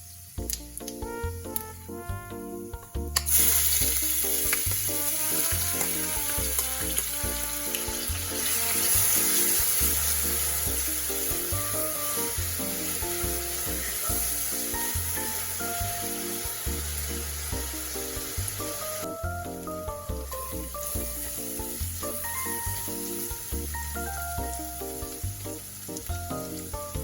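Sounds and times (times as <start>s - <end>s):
background music with bass: 0.0s - 27.0s
food sizzling in hot oil: 0.0s - 27.0s.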